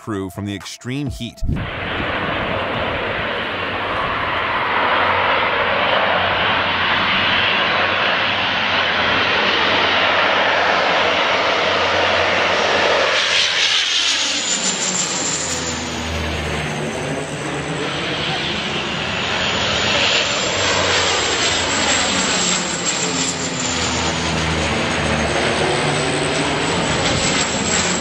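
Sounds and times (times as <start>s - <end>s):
turboprop engines droning overhead: 0.0s - 28.0s.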